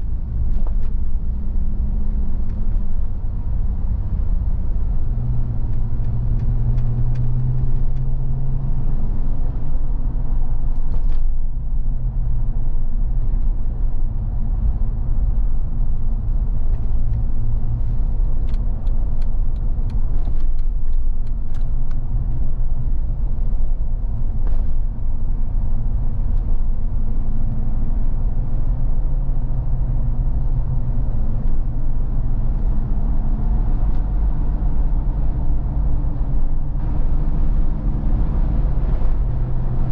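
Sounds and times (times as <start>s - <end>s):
car engine hum from inside: 0.0s - 39.9s
tyre and road rumble: 0.0s - 39.9s.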